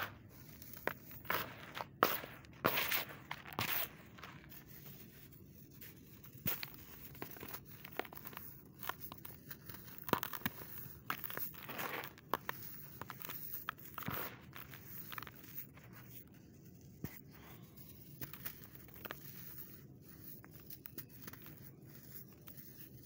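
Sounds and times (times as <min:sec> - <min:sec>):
hands crushing dry sand clumps: 0:00.0 - 0:23.0.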